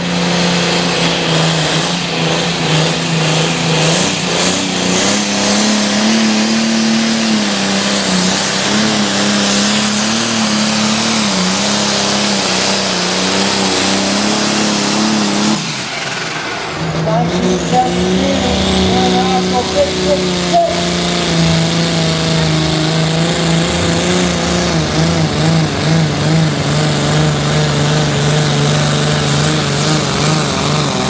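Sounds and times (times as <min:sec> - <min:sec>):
tractor engine at high revs: 0:00.0 - 0:31.0.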